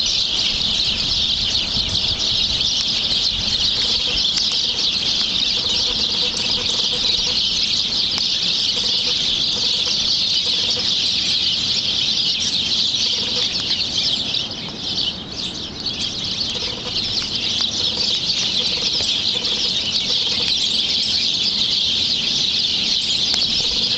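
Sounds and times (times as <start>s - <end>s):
birds chirping and chattering: 0.0s - 23.9s.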